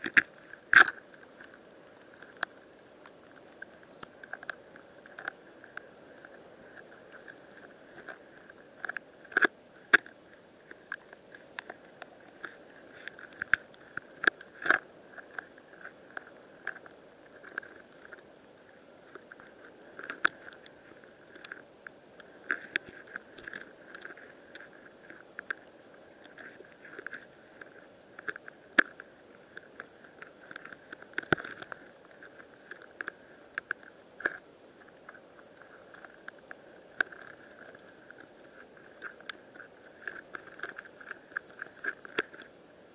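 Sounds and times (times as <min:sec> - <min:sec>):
faint steady hiss: 0:00.0 - 0:42.9
underwater clicks and crackling: 0:00.0 - 0:42.9.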